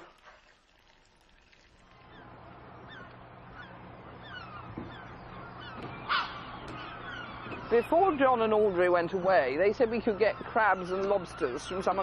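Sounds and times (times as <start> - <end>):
low steady hum: 0.0 - 12.0
gulls calling: 1.9 - 12.0.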